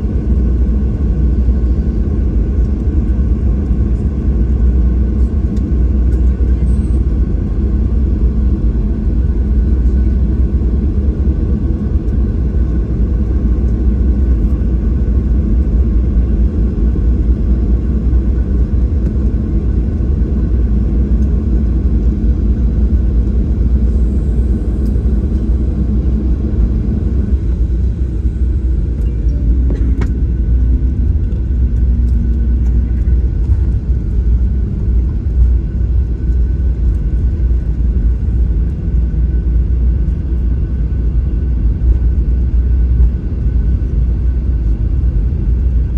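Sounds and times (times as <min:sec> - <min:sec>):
jet engines idling rumble: 0:00.0 - 0:45.9.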